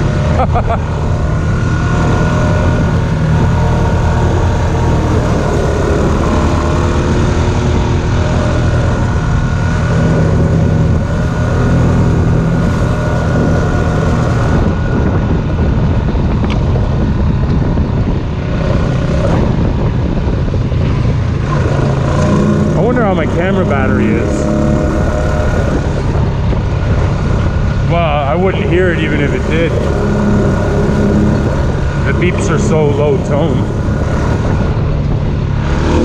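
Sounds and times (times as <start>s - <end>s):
off-road engine running: 0.0s - 36.0s.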